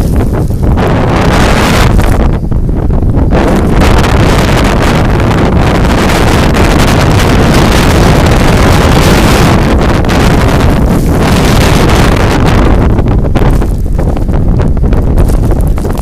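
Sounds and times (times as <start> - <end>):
wind blasting the microphone: 0.0 - 16.0.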